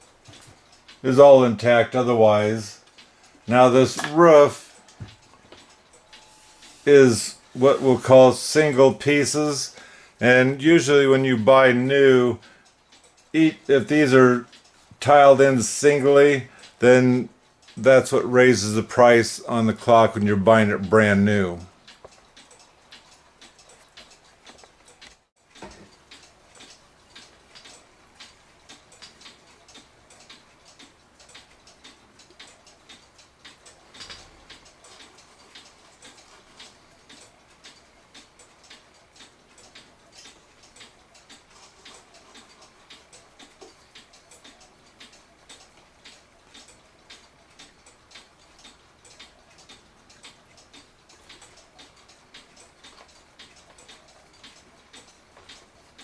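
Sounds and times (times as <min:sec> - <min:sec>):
mechanical clock ticking: 0:00.0 - 0:56.0.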